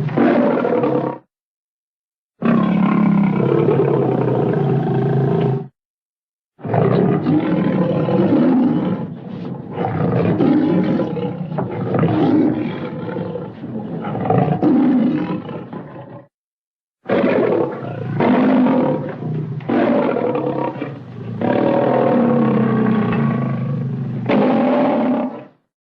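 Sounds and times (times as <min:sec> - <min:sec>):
lion roaring and growling: 0:00.0 - 0:01.3, 0:02.4 - 0:05.7, 0:06.6 - 0:16.3, 0:17.1 - 0:25.6.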